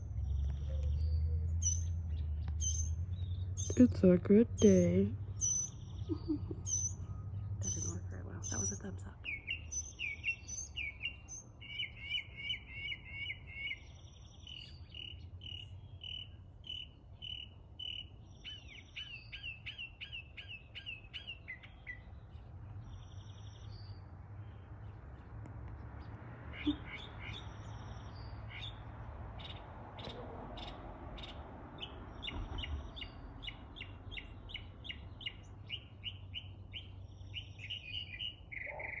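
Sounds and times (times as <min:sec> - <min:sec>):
mockingbird singing: 0:00.0 - 0:24.0, 0:29.4 - 0:39.0.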